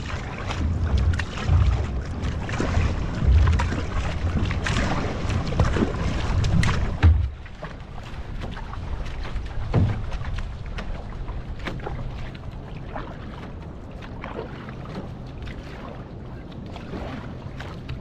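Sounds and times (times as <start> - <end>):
paddle stroke splashes: 0.0 - 18.0
water splashing around canoe: 0.0 - 18.0
wind rumble on microphone: 0.0 - 18.0.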